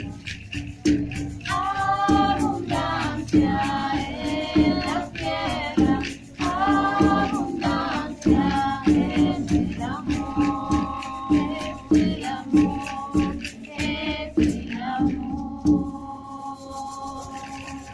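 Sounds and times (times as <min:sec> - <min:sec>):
frame drum beat: 0:00.0 - 0:16.2
rattle shaking: 0:00.0 - 0:17.9
women singing together: 0:01.4 - 0:17.9.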